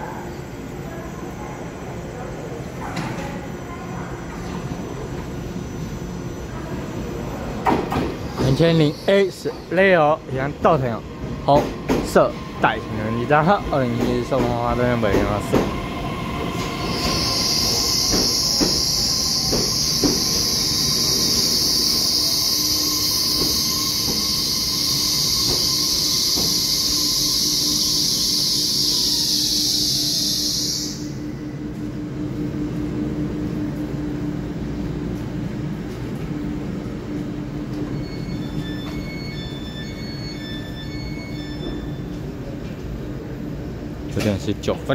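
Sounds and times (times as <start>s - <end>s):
electric train rolling past: 3.4s - 44.0s.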